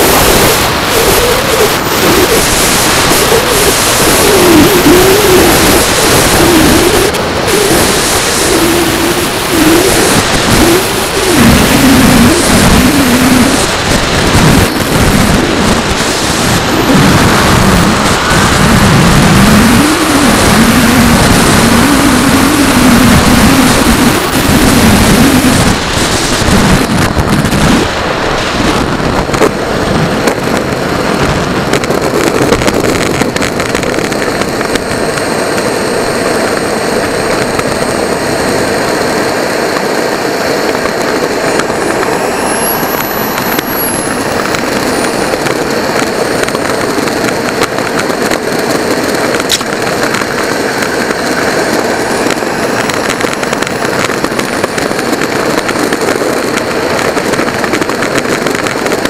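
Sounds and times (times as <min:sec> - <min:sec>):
high engine whine: 0:00.0 - 0:59.0
wheels rattling on rough asphalt: 0:00.0 - 0:59.0
wind rushing and rumbling: 0:00.0 - 0:59.0.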